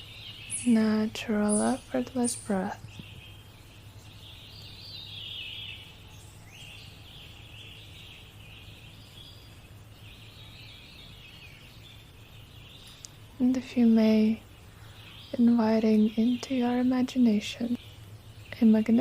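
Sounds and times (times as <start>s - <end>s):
birds chirping and trilling: 0.0s - 19.0s
low steady hum: 0.0s - 19.0s.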